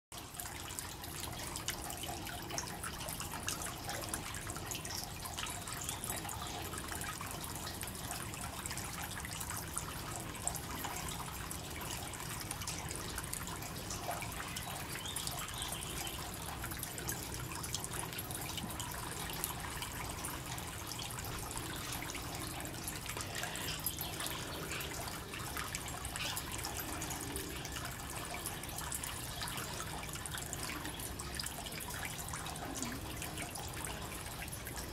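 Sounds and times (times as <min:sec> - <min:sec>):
fountain water trickling and dripping: 0:00.1 - 0:34.9.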